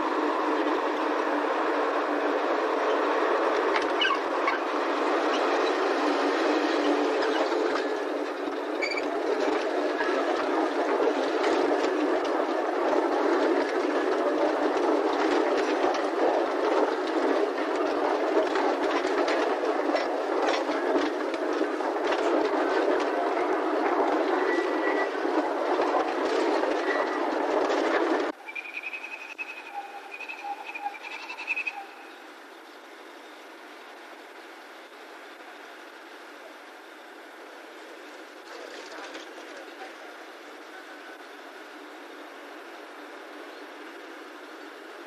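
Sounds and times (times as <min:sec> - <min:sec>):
wheels clicking over rail joints: 0:00.0 - 0:31.9, 0:36.4 - 0:40.8
diesel locomotive passing: 0:00.0 - 0:45.0
wagons rolling on rails: 0:00.0 - 0:45.0.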